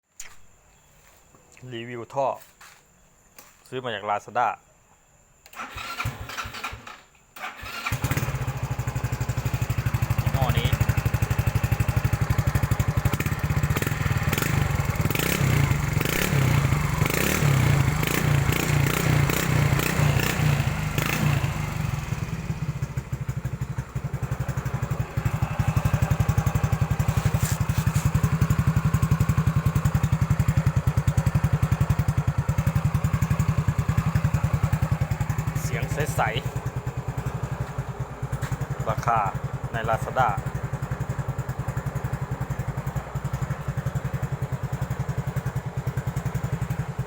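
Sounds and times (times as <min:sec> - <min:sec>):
scooter engine idling: 0:07.6 - 0:47.0.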